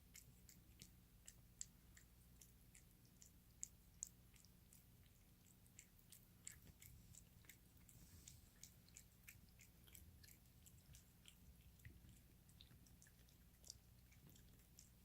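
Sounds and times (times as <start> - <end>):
cat chewing with crunching clicks: 0.0 - 15.0.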